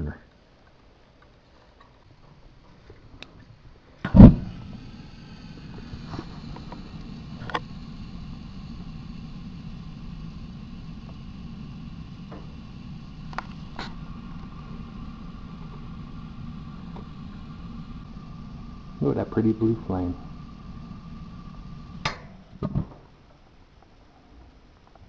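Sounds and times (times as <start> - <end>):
gas burner roaring: 2.6 - 23.2.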